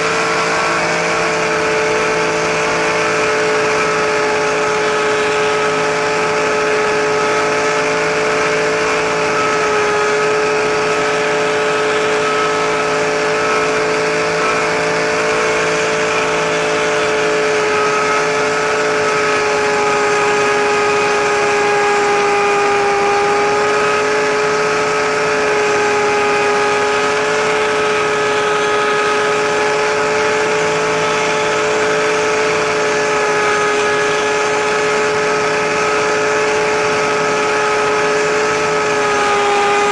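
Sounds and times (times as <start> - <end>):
helicopter motor and rotor whine: 0.0 - 39.9.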